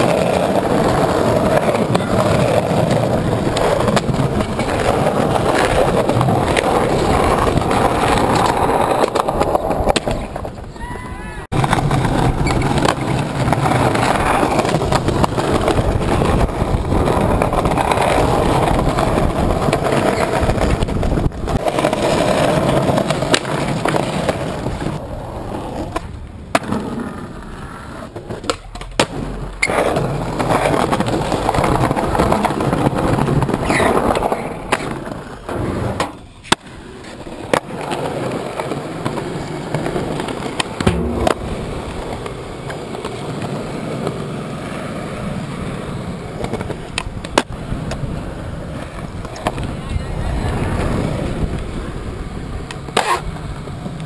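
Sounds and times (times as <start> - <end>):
skateboard clacks: 0.0 - 54.0
skateboard wheels rolling on concrete: 0.0 - 54.0.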